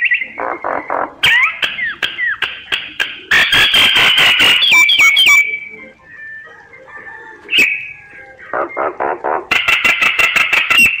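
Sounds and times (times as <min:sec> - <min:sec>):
myna bird singing: 0:00.0 - 0:11.0.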